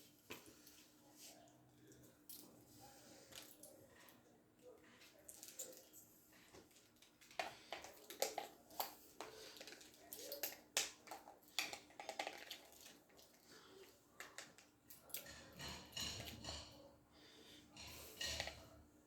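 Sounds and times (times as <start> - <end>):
faint clicks of small parts: 0.2 - 16.8, 17.7 - 18.8.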